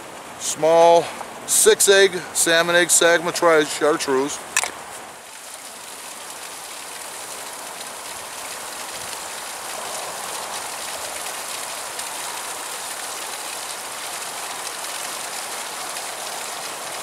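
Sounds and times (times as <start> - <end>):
flowing creek water: 0.0 - 17.0.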